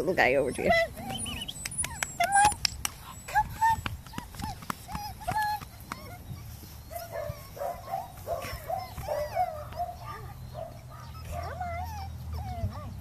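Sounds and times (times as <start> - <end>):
puppy whining and yipping: 0.0 - 13.0.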